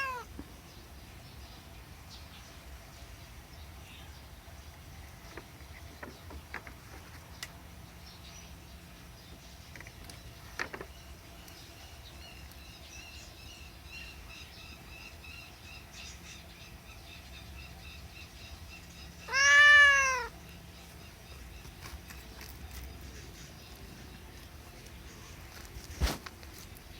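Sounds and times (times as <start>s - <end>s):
faint background hum: 0.0s - 26.9s.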